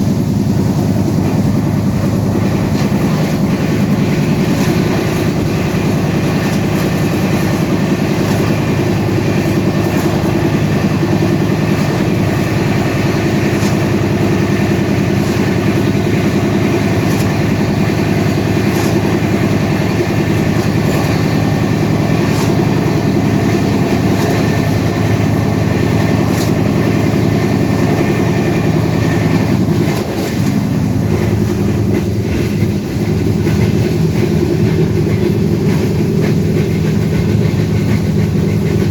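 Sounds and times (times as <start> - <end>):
train rumbling on rails: 0.0 - 38.9
wheels clattering over track: 0.8 - 38.9.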